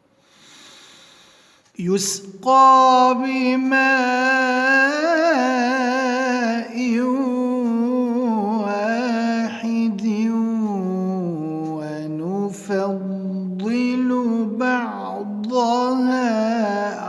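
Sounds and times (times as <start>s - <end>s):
man chanting melodically: 1.7s - 17.0s.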